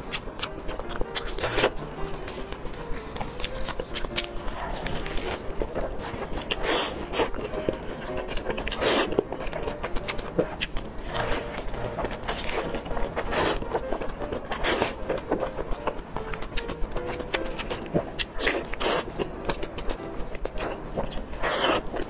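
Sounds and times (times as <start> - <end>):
lettuce crunching while chewing: 0.0 - 22.0.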